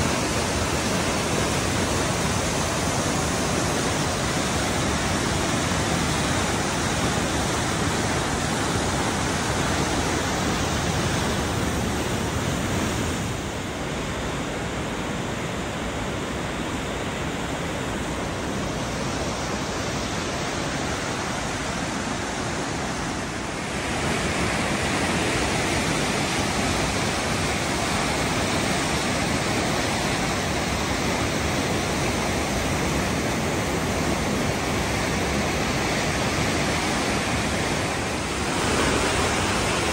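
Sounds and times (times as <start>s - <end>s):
whitewater rushing: 0.0s - 39.9s.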